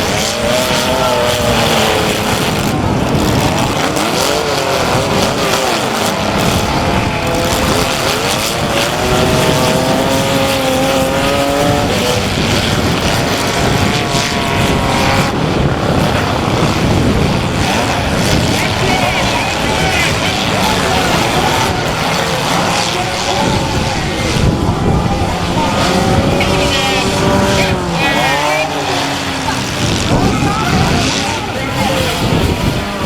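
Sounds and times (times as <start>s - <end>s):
car engines revving: 0.0s - 33.0s
tire and machinery noise: 0.0s - 33.0s.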